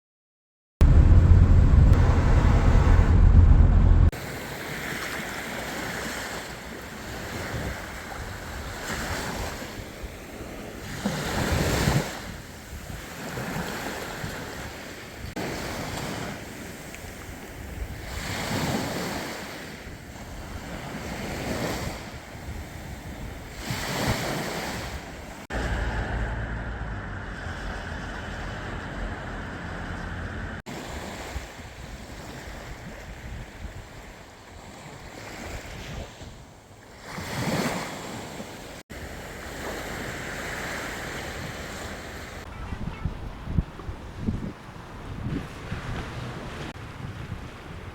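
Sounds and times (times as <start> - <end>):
wind buffeting microphone: 0.8 - 6.3, 6.9 - 47.9
waves breaking on beach: 4.1 - 47.9.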